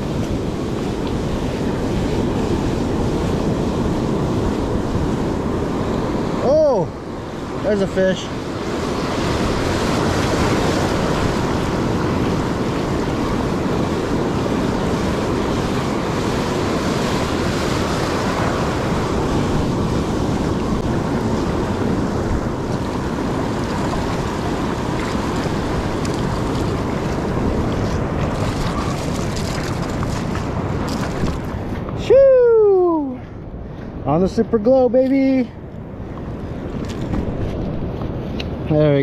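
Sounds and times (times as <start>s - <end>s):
wind buffeting microphone: 0.0s - 34.6s, 35.2s - 39.0s
surf washing on sand: 0.0s - 39.0s.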